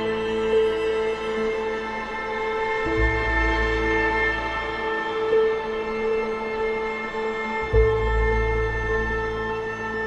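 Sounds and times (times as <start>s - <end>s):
slow music with held tones: 0.0s - 10.0s.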